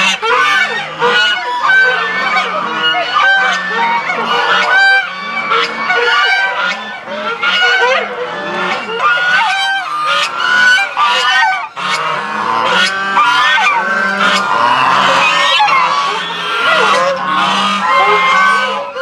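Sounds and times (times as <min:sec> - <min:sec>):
geese honking: 0:00.0 - 0:19.0.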